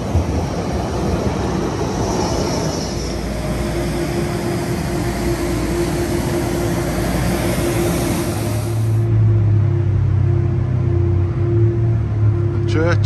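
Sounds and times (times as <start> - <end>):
steady hum: 0.0 - 13.0
tram running on rails: 0.0 - 13.0.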